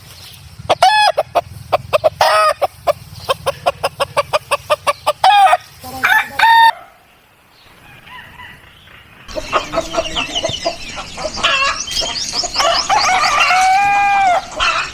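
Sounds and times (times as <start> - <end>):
hens clucking: 0.6 - 14.9.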